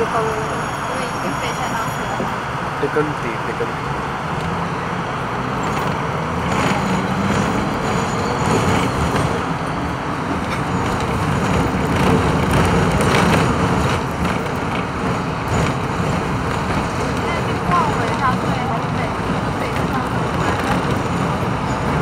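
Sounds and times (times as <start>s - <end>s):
tram running on rails: 0.0s - 22.0s.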